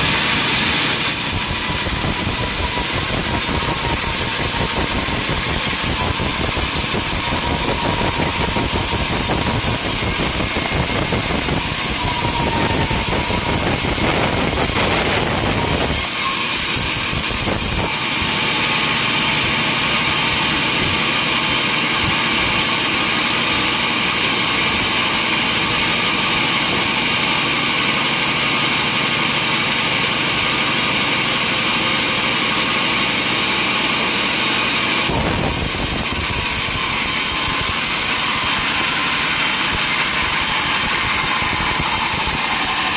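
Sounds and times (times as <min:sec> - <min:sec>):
saw cutting: 0:00.0 - 0:42.9
sawmill machinery running: 0:00.0 - 0:42.9.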